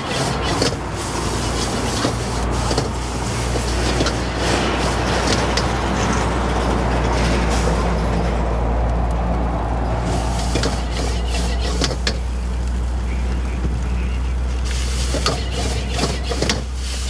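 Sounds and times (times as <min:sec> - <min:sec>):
rushing noise: 0:00.0 - 0:17.0.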